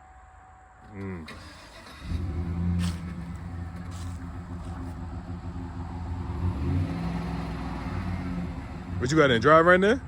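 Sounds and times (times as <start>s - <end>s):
van engine running: 0.9s - 10.0s.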